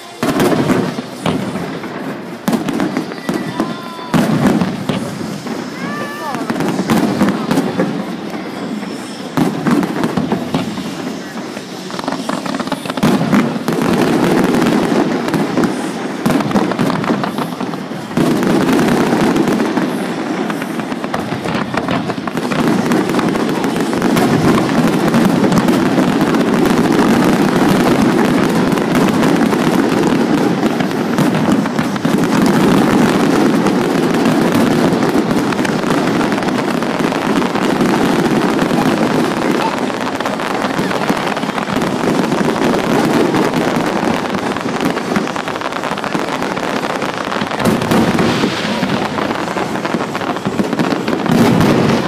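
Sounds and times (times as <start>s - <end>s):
fireworks bangs and crackle: 0.0s - 52.0s.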